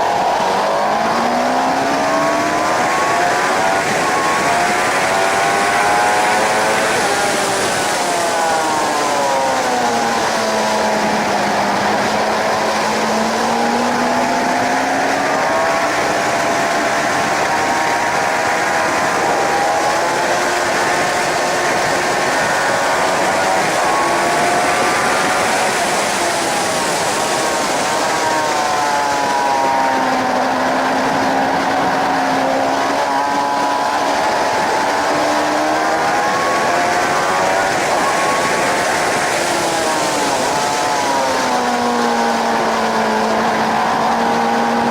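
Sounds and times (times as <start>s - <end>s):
motorcycle engine revving: 0.0s - 44.9s
wind rush: 0.0s - 44.9s.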